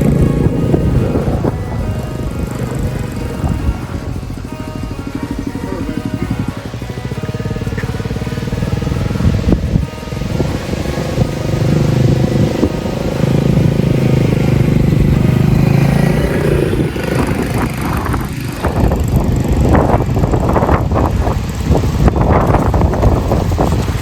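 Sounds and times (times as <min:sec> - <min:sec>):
mini bike engine running: 0:00.0 - 0:24.0.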